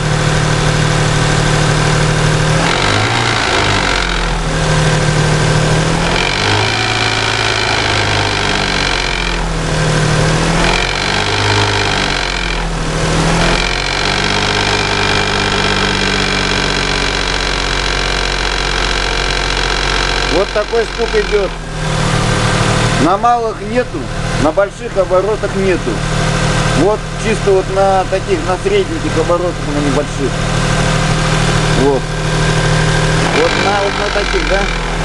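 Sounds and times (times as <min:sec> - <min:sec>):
car engine revving: 0:00.0 - 0:35.0
engine knocking: 0:00.0 - 0:35.0.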